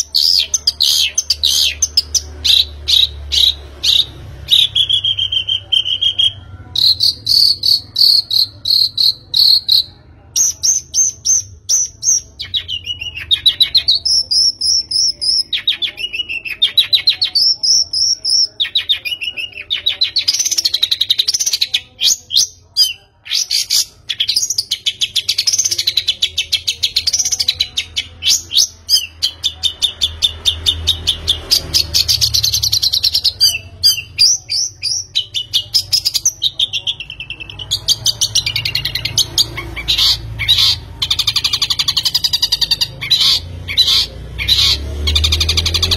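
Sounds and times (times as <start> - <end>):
bird singing trills: 0.0 - 45.9.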